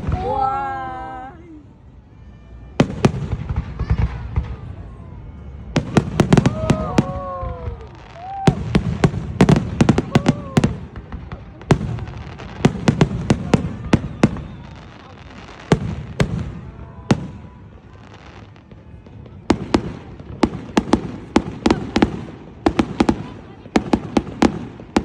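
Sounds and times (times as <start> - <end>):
fireworks bangs: 0.0 - 1.0, 2.7 - 25.0.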